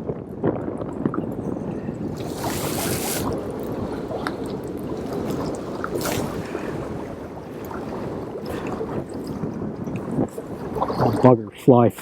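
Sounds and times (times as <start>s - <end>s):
wind on the microphone: 0.0s - 12.0s
sea water washing around rocks: 0.5s - 11.6s
water splashes: 0.9s - 11.9s.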